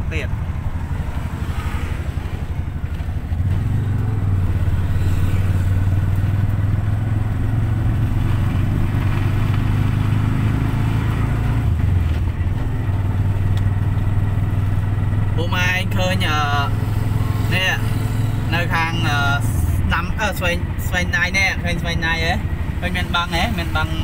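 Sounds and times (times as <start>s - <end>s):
small motorcycle engine running: 0.3s - 24.0s.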